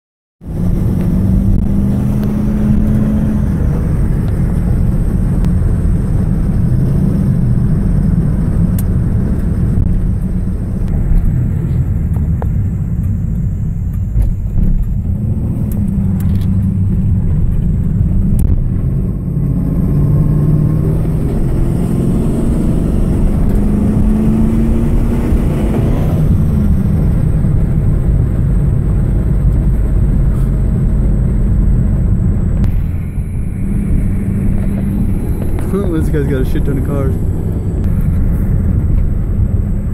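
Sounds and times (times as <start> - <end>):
car engine rumble from inside: 0.4 - 39.9.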